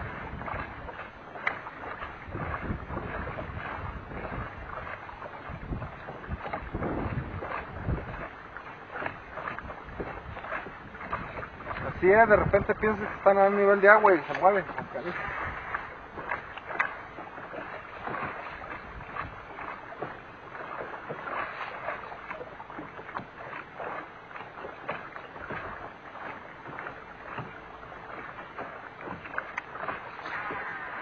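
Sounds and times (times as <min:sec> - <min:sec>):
wash of water: 0:00.0 - 0:31.0
waves slapping boat hull: 0:00.0 - 0:31.0.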